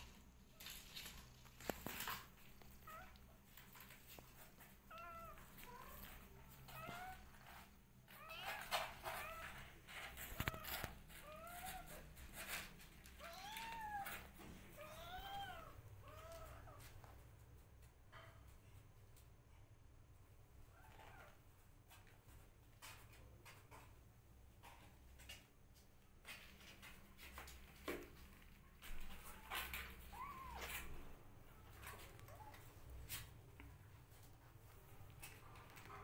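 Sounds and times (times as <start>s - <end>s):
rustling and scratching: 0.0s - 19.4s, 20.5s - 36.0s.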